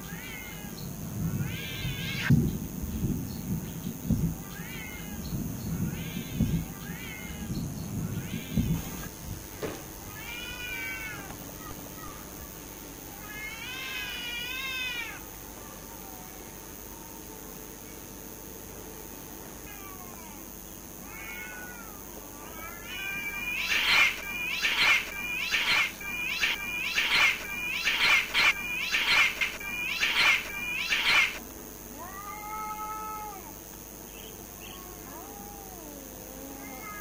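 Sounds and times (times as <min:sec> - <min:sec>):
cats yowling in a fight: 0:00.0 - 0:02.3, 0:04.3 - 0:09.1, 0:10.0 - 0:12.4, 0:13.0 - 0:17.8, 0:19.5 - 0:33.8, 0:34.4 - 0:37.0.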